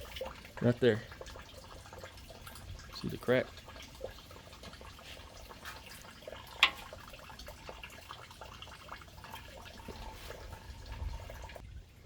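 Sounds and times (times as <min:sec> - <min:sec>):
faint liquid drips: 0:00.0 - 0:12.0.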